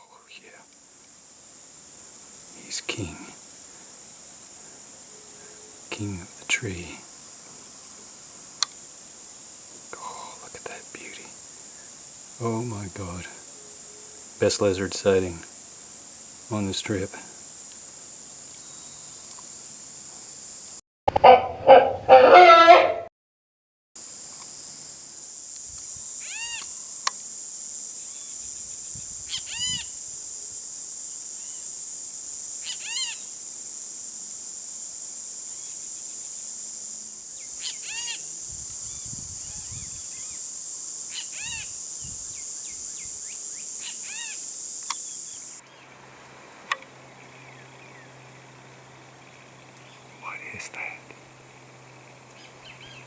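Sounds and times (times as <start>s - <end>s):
high-pitched insect drone: 0.0s - 20.8s, 24.0s - 53.0s.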